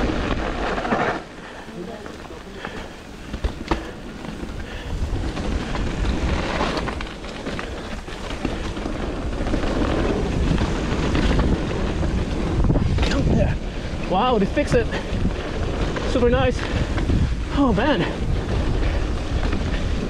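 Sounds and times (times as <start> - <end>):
mountain bike rumbling and rattling: 0.0 - 20.0
wind on microphone: 2.2 - 20.0.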